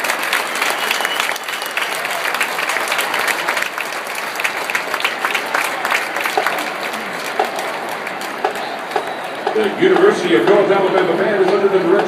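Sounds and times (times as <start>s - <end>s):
large crowd applauding: 0.0s - 12.0s.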